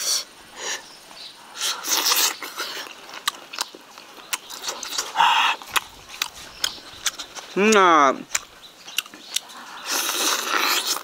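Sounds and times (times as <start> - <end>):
person chewing: 1.6 - 11.0
sharp mouth clicks: 1.6 - 11.0.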